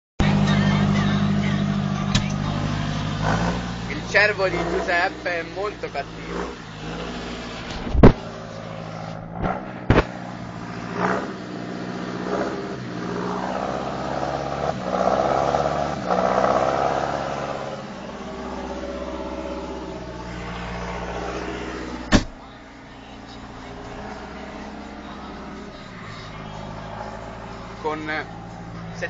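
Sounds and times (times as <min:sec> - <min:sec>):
tractor diesel engine running: 0:00.2 - 0:29.0.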